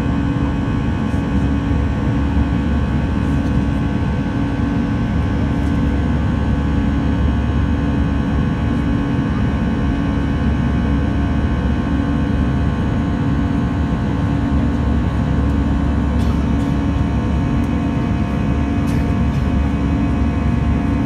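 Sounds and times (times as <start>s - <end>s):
jet engine cabin drone: 0.0s - 21.0s.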